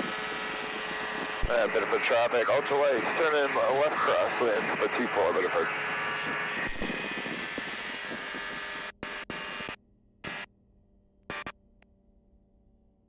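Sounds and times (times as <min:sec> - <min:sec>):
faint engine hum: 0:00.0 - 0:13.0
wind and aircraft engine noise: 0:00.0 - 0:13.0.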